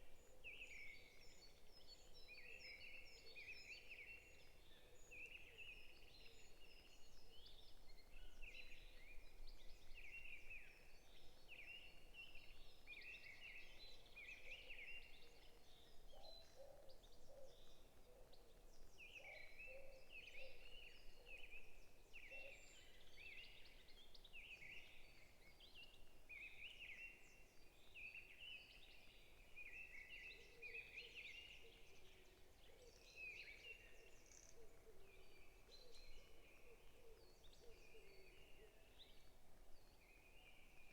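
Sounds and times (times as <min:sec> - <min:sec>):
forest birds chirping: 0:00.0 - 0:40.9.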